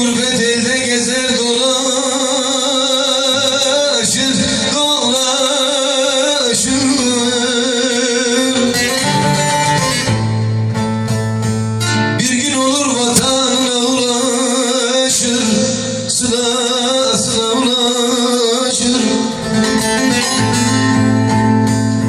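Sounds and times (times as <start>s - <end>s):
folk music on lute and guitar: 0.0s - 22.0s.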